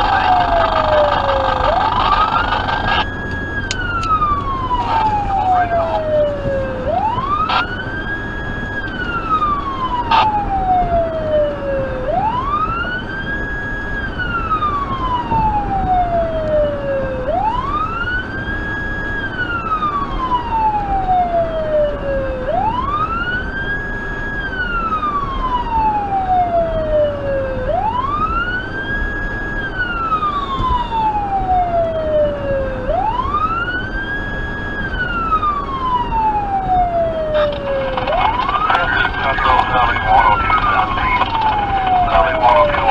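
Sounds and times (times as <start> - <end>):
electronic siren wailing: 0.0 - 42.9
road noise inside car: 0.0 - 42.9.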